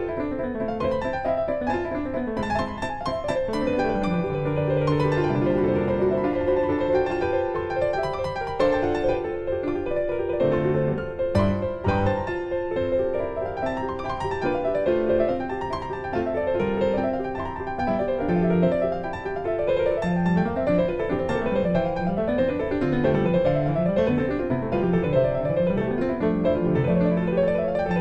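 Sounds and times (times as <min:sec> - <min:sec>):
piano arpeggios: 0:00.0 - 0:28.0.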